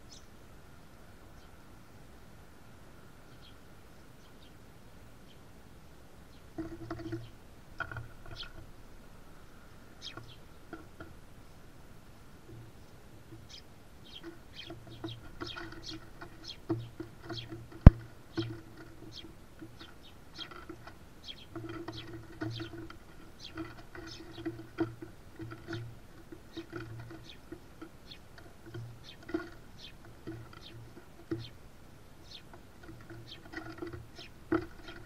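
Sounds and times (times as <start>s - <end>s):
sparrows chirping: 0.0s - 0.4s, 1.2s - 1.6s, 3.2s - 35.0s
birds pecking on wooden boards: 6.4s - 35.0s.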